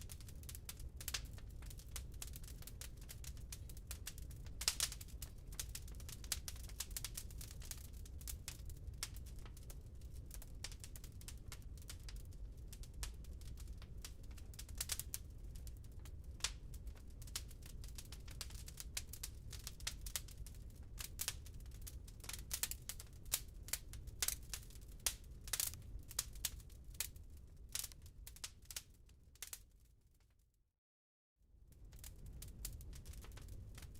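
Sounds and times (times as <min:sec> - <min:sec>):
wood fire crackling: 0:00.0 - 0:29.8, 0:31.6 - 0:33.9.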